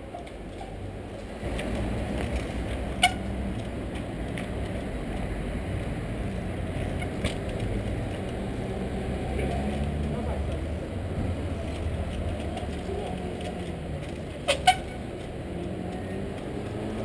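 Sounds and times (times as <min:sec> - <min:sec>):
low rumble of city traffic: 0:00.0 - 0:17.0.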